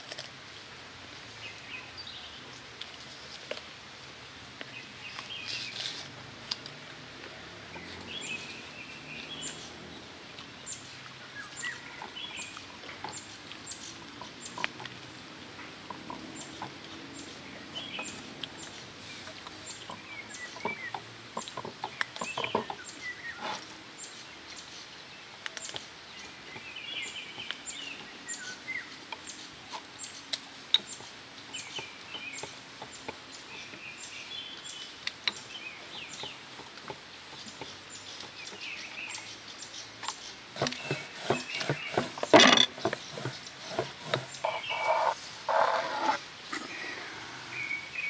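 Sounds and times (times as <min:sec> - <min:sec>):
birds chirping: 0:07.3 - 0:48.0.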